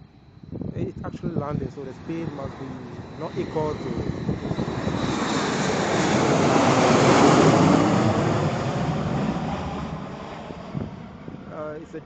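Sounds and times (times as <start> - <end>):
cargo jet passing: 0.0 - 12.0.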